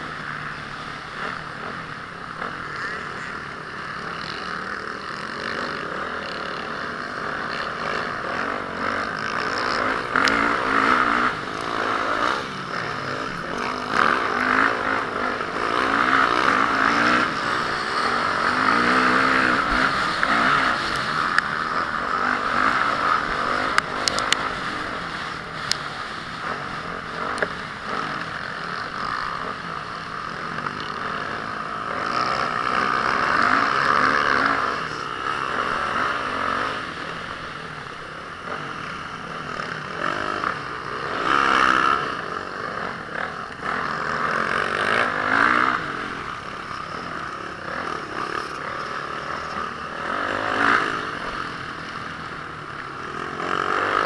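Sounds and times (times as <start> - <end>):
motorcycle engine revving: 0.0 - 54.0
steady rushing noise: 0.0 - 54.0.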